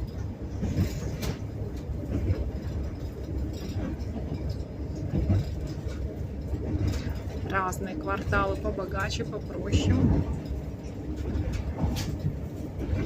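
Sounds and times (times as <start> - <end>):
train rumbling: 0.0 - 13.0
wheels clacking over rail joints: 0.0 - 13.0.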